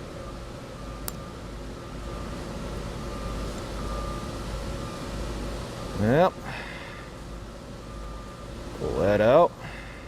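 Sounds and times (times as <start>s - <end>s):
background hum and hiss: 0.0s - 10.0s
faint steady tones: 0.0s - 10.0s.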